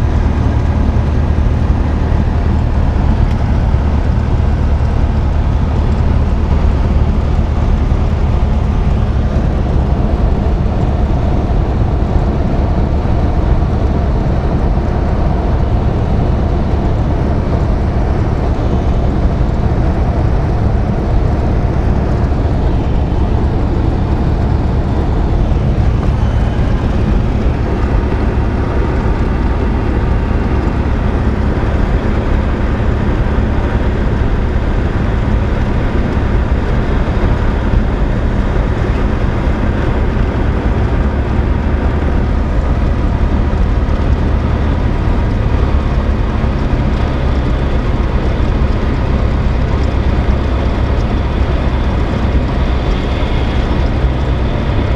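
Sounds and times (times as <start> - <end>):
aircraft engine droning: 0.0 - 54.9.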